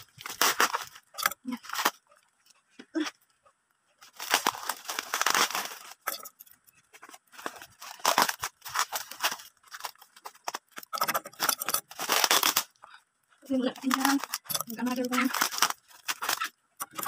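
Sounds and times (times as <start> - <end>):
plastic wrap crinkling: 0.0 - 2.2, 4.0 - 12.8, 13.6 - 17.0.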